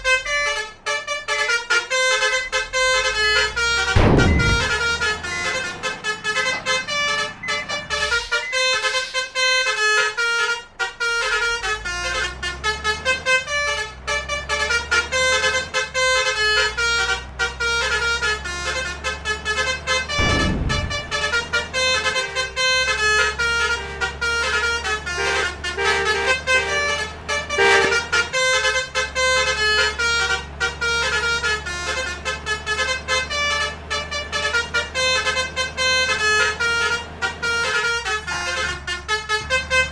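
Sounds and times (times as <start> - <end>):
bus horns playing tunes: 0.0 - 39.9
engine humming: 0.0 - 39.9.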